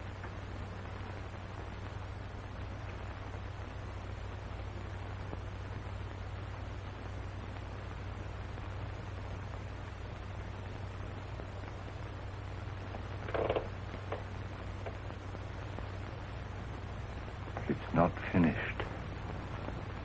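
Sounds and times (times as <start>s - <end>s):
film soundtrack hiss and hum: 0.0s - 20.0s.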